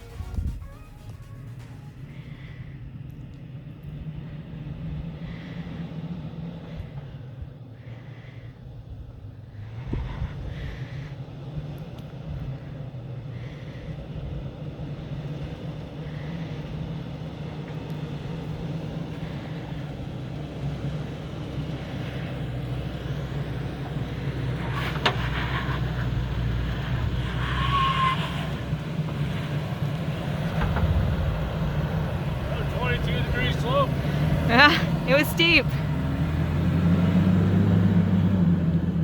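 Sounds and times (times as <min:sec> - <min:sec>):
pickup truck engine running: 0:00.0 - 0:39.0.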